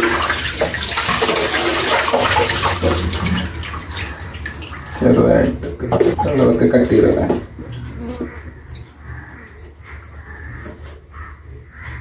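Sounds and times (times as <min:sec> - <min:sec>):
water splashing over chicken: 0:00.0 - 0:11.6.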